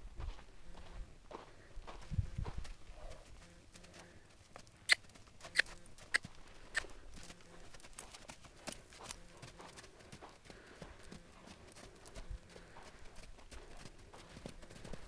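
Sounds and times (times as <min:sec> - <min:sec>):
horse hoofbeats on sand: 0:00.2 - 0:15.0.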